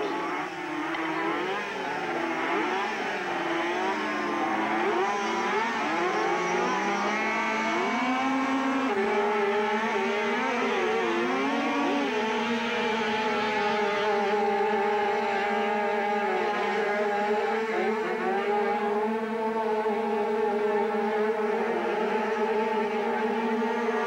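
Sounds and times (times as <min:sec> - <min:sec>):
small two-stroke engines revving: 0:00.0 - 0:24.0.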